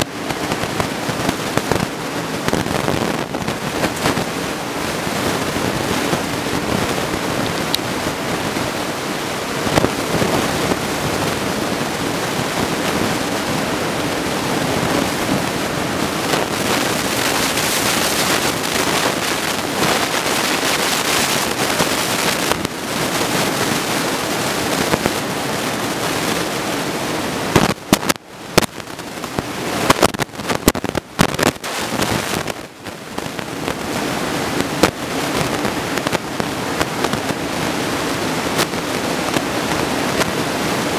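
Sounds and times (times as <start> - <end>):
crackling bursts: 0.0 - 40.9
ocean surf breaking: 0.0 - 40.9
wind on microphone: 0.0 - 40.9.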